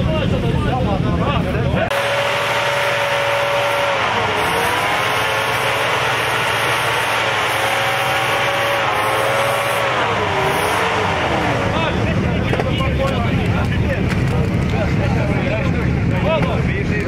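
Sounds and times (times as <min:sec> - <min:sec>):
engine running: 0:00.0 - 0:17.0
steady noisy rush: 0:00.0 - 0:17.0.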